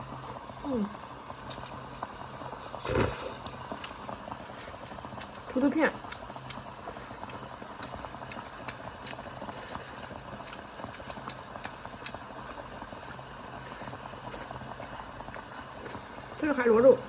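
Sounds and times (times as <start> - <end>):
hot pot bubbling: 0.0 - 17.0.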